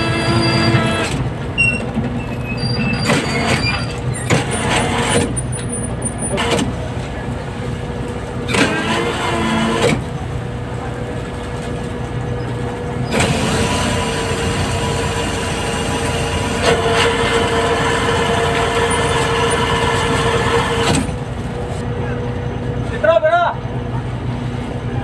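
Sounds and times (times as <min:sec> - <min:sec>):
boat engine running: 0:00.0 - 0:22.9.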